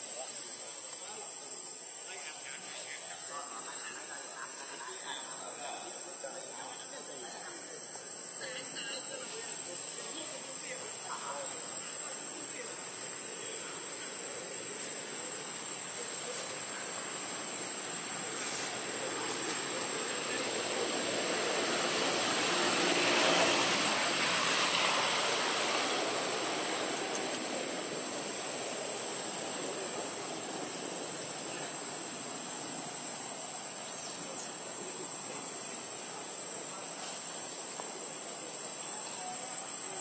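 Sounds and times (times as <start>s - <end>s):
constant high-pitched whine: 0.0s - 40.0s
even hiss: 0.0s - 40.0s.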